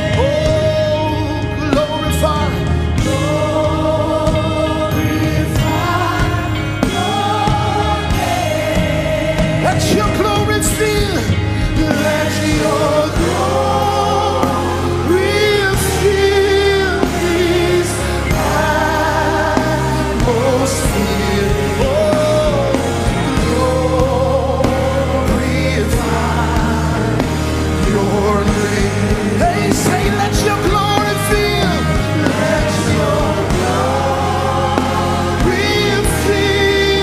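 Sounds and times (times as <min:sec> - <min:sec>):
band playing gospel music: 0:00.0 - 0:37.0
choir and congregation singing: 0:00.0 - 0:37.0.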